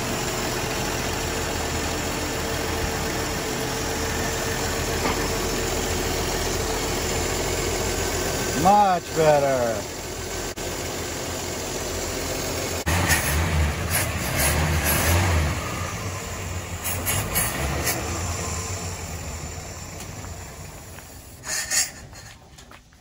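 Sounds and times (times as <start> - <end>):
pickup engine idling: 0.0 - 23.0.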